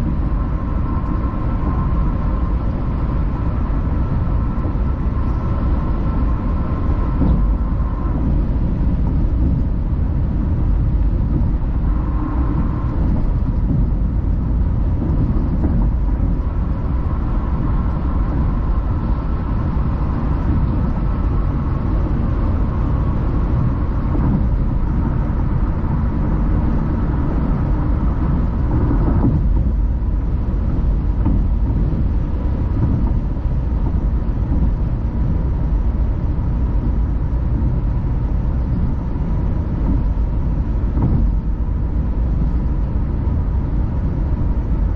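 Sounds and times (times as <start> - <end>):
tyres and engine rumble: 0.0 - 44.9.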